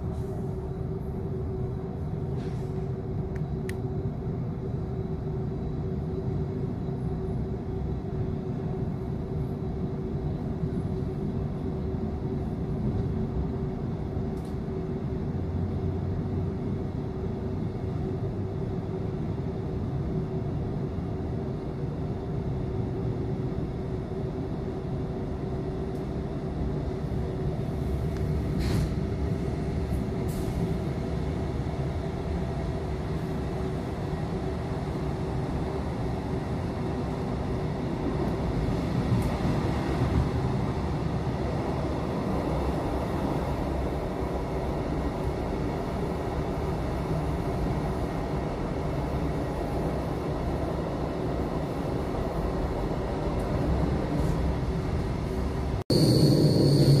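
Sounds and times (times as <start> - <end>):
constant hum: 0.0 - 57.0
train wheels rumbling on track: 0.0 - 57.0.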